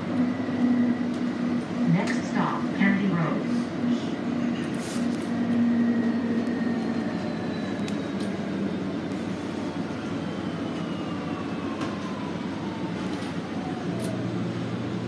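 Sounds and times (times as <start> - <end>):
bus road and drivetrain rumble: 0.0 - 15.0.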